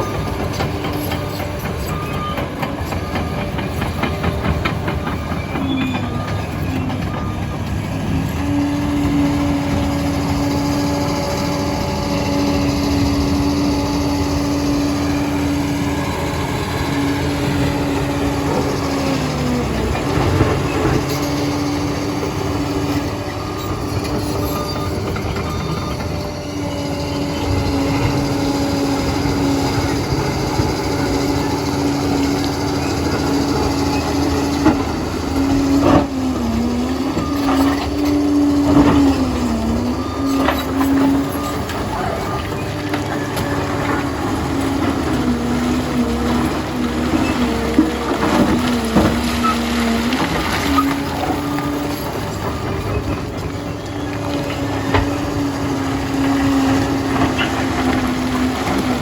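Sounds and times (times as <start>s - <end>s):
dozer engine whining: 0.0s - 59.0s
steel tracks clanking and squealing: 0.0s - 59.0s.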